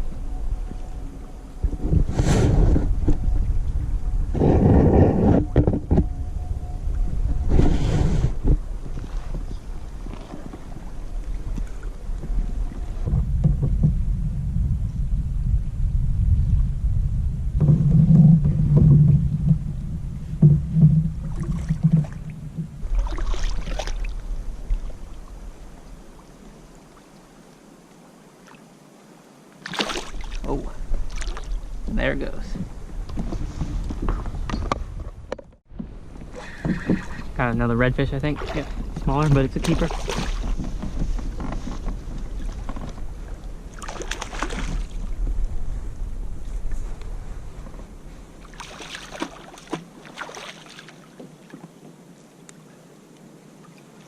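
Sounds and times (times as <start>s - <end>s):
wind buffeting microphone: 0.0s - 27.0s, 30.0s - 50.2s.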